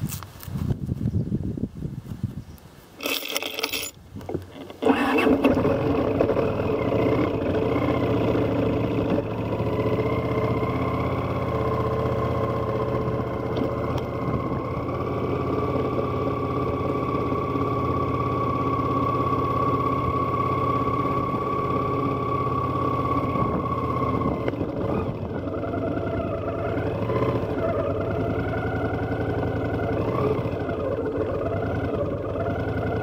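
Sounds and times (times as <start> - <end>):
motorcycle engine starting: 3.0 - 33.0.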